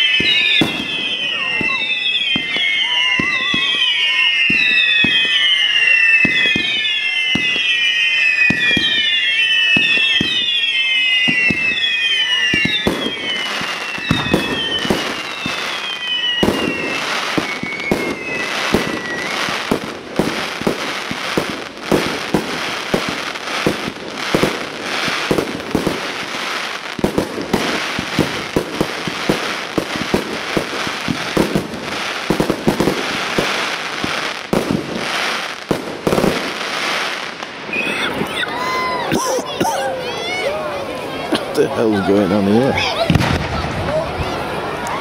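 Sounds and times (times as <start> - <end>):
firework bangs: 0.0 - 40.4, 41.1 - 45.0
falling firework whistles: 0.0 - 40.5, 42.7 - 45.0
firework crackle: 0.0 - 45.0.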